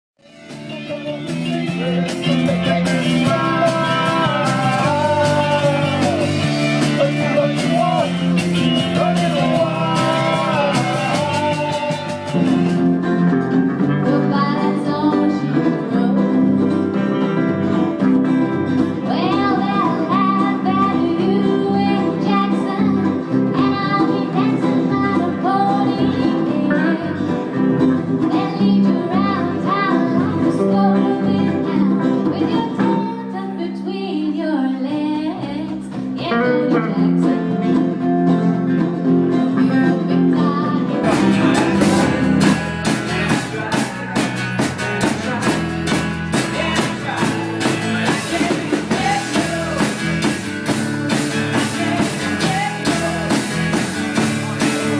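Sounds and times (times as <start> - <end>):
person singing: 0.2 - 17.2, 18.9 - 54.9
live band with guitar: 0.2 - 54.9.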